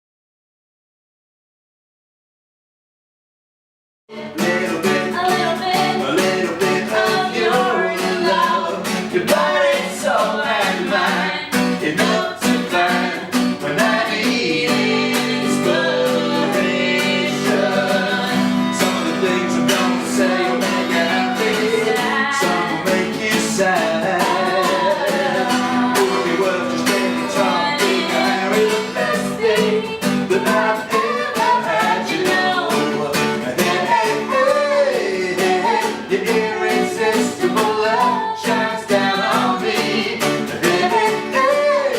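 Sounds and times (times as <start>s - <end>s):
person singing: 4.1s - 41.9s
strummed acoustic guitar: 4.1s - 41.9s.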